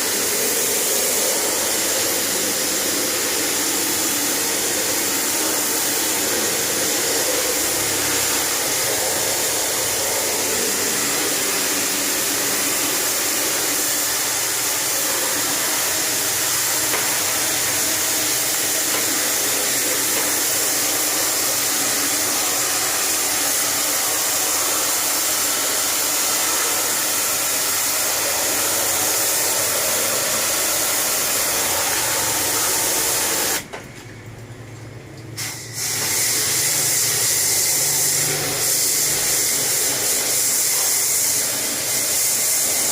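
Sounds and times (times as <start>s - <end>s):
pressure washer spraying water: 0.0s - 33.7s, 35.3s - 42.9s.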